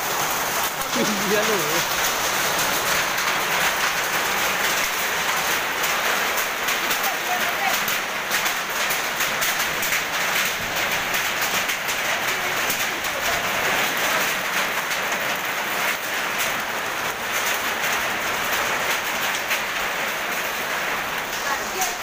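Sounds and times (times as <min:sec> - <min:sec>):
heavy hail clattering: 0:00.0 - 0:22.0.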